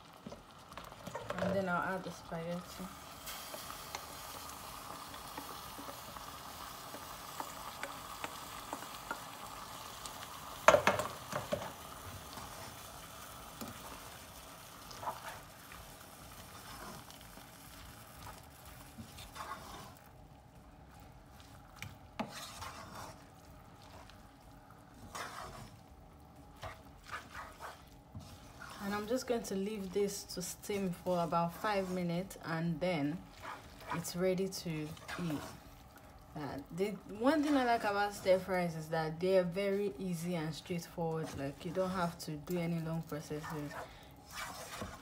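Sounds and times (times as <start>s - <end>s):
food sizzling in a saucepan: 0.0s - 45.0s
wooden spoon scraping a pan: 0.8s - 9.4s, 10.7s - 12.9s, 13.6s - 20.2s, 20.9s - 36.0s, 36.6s - 38.7s, 39.4s - 45.0s.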